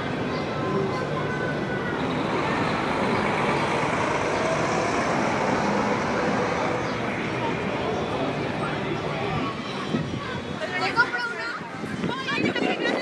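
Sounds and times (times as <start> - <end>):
passing road traffic: 0.0 - 13.0.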